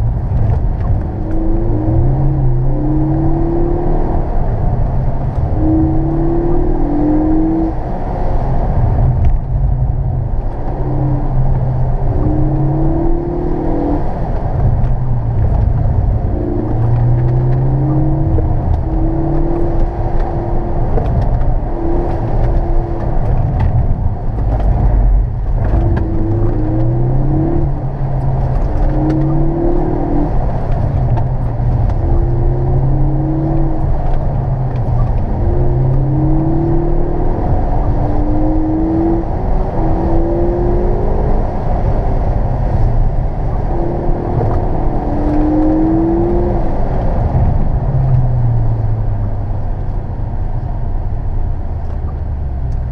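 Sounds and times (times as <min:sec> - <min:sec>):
car engine accelerating: 0:00.0 - 0:52.9
road noise: 0:00.0 - 0:52.9.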